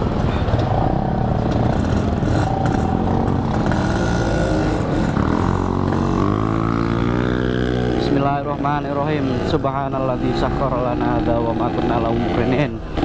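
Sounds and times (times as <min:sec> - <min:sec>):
two-stroke engine revving: 0:00.1 - 0:13.0.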